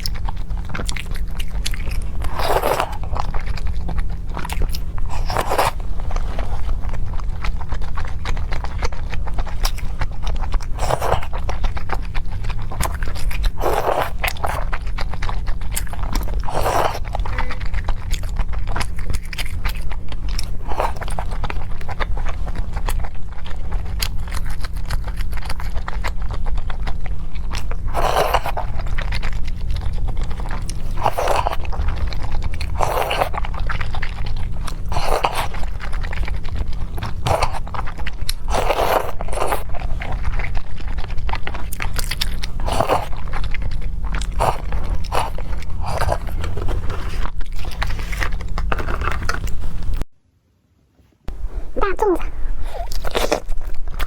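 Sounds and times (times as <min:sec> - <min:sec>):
biting and chewing food: 0:00.0 - 0:50.1, 0:51.3 - 0:54.0
steady low hum: 0:00.0 - 0:50.1, 0:51.3 - 0:54.0.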